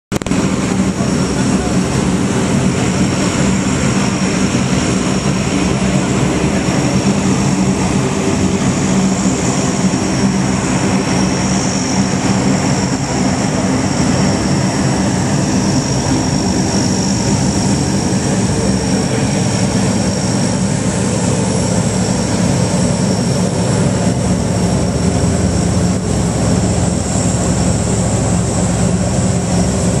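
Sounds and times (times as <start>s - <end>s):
propeller plane engines droning: 0.1s - 30.0s.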